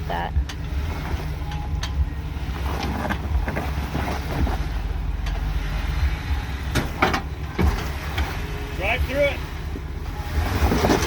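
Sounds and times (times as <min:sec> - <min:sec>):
jeep engine low rumble: 0:00.0 - 0:11.0.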